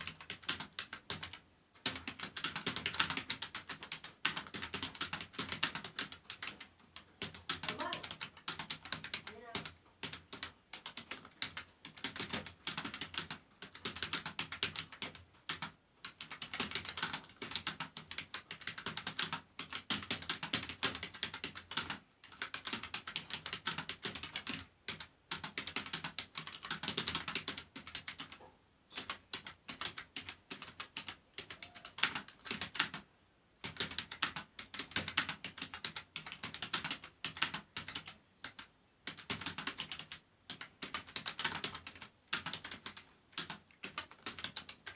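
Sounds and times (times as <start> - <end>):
fast typing on keyboard: 0.0 - 44.9.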